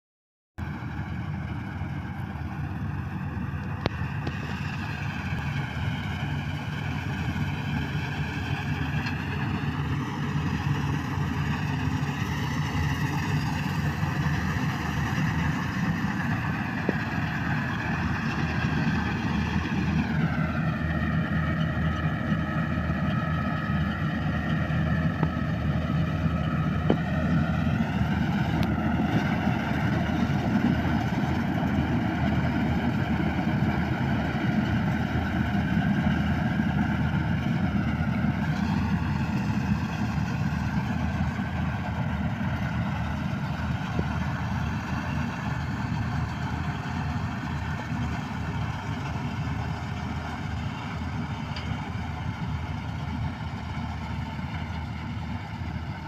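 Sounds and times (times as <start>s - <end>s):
combine harvester engine drone: 0.6s - 56.0s.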